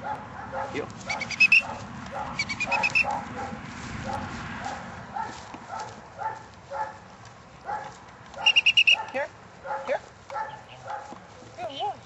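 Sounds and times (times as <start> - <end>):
dogs barking: 0.0 - 11.2.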